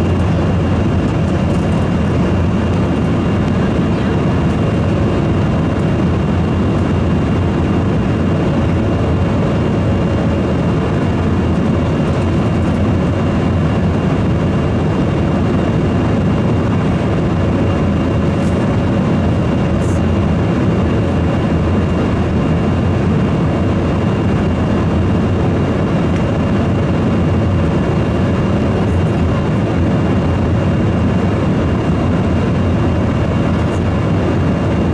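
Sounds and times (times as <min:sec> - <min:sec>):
jet engine drone: 0:00.0 - 0:34.9.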